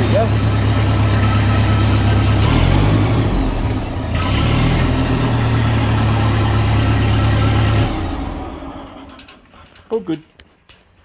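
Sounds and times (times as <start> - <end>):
tractor engine running: 0.0 - 10.3.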